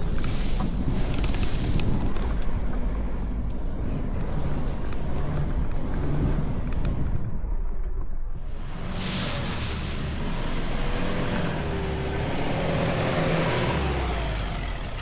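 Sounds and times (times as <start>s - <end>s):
wind noise on microphone: 0.0s - 13.9s
vehicle rumbling in motion: 0.0s - 15.0s.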